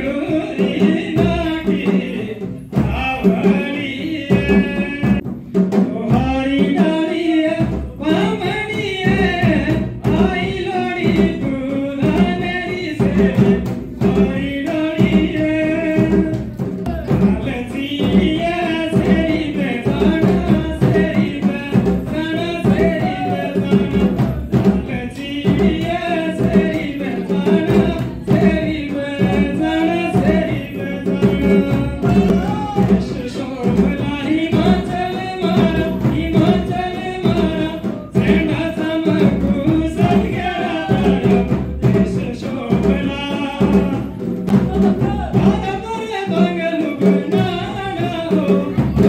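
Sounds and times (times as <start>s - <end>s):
folk singing: 0.0s - 5.2s, 5.8s - 49.0s
steady drum beat: 0.0s - 49.0s.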